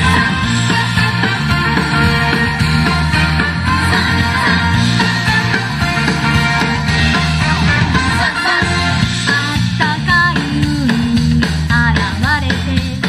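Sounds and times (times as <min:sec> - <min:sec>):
pop song with guitar and vocals: 0:00.0 - 0:13.0.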